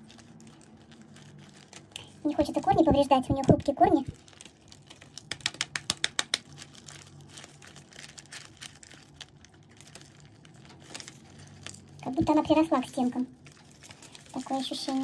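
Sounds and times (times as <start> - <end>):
plastic pot crinkling and clicking: 0.0 - 12.9.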